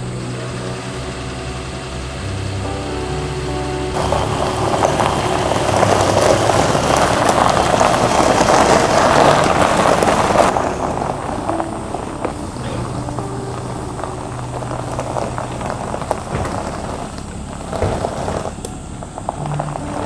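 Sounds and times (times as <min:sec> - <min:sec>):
heavy rain pattering: 0:00.0 - 0:20.0.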